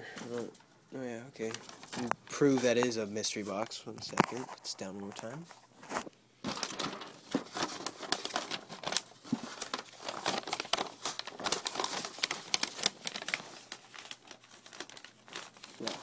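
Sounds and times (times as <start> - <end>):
crinkling and rustling: 1.4 - 16.0.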